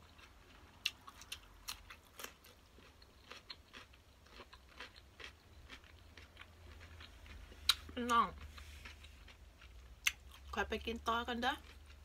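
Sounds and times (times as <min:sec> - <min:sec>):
crisp chewing crunches: 0:00.0 - 0:10.6.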